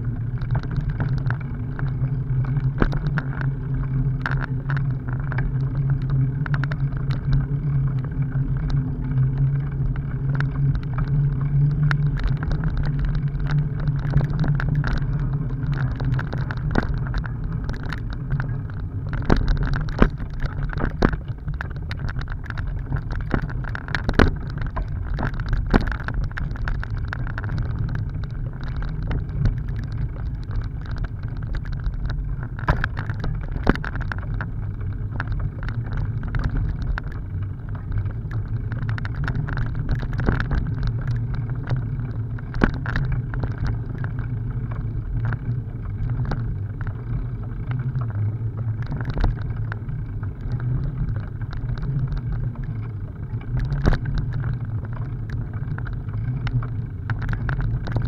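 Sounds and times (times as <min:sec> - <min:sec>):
bicycle tyres rumbling on dirt: 0:00.0 - 0:58.0.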